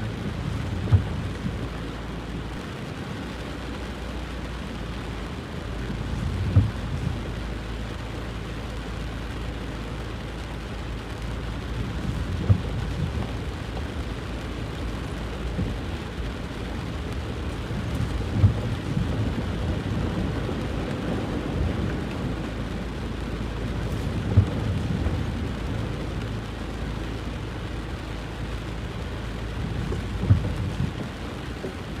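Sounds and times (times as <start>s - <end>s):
heavy rain: 0.0s - 32.0s.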